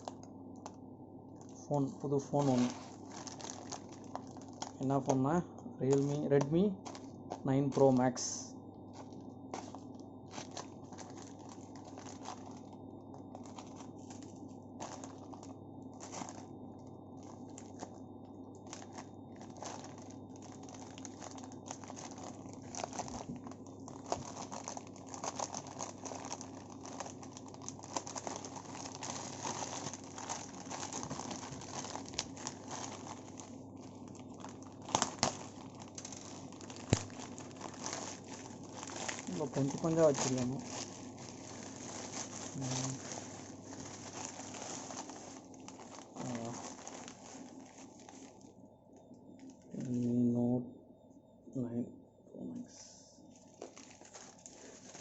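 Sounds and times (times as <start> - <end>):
plastic packaging crinkling and tearing: 0.0 - 0.8, 1.4 - 48.5, 53.3 - 55.0
steady low hum: 0.0 - 55.0.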